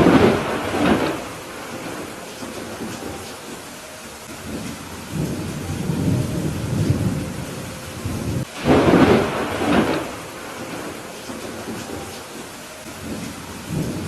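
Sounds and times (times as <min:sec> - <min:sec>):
loud thunder clap: 0:00.0 - 0:03.5, 0:04.4 - 0:14.0
rolling thunder: 0:00.0 - 0:14.0
steady rain: 0:00.0 - 0:14.0.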